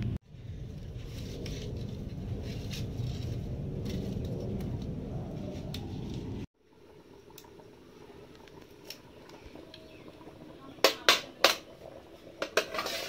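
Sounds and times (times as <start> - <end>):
wood fire crackle: 0.0 - 13.0.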